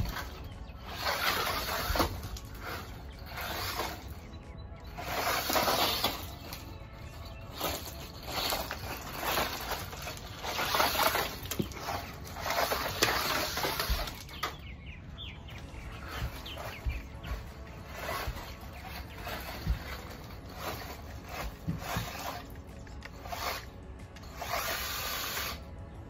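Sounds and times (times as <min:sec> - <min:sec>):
rc truck tyres crunching gravel: 0:00.0 - 0:25.6.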